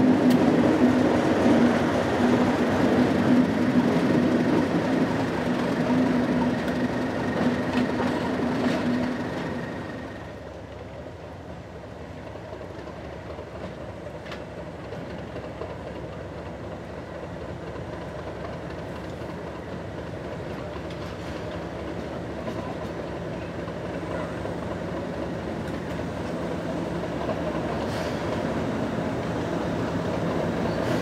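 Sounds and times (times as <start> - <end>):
diesel locomotive engine running: 0.0 - 31.0.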